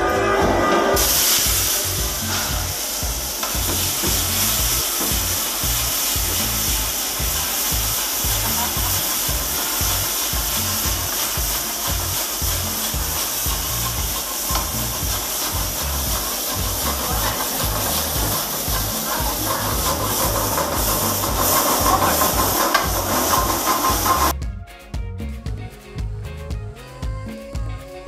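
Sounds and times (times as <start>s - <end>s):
vegetables sizzling in a wok: 0.2s - 24.4s.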